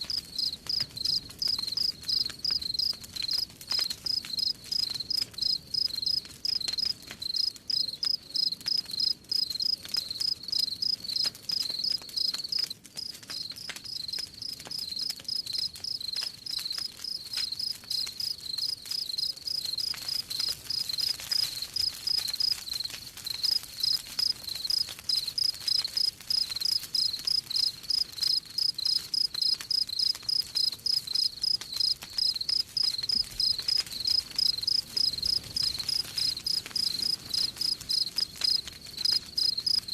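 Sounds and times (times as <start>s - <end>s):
campfire crackling: 0.0s - 39.9s
crickets chirping: 0.2s - 3.4s, 4.1s - 11.2s, 13.0s - 21.1s, 22.2s - 39.9s.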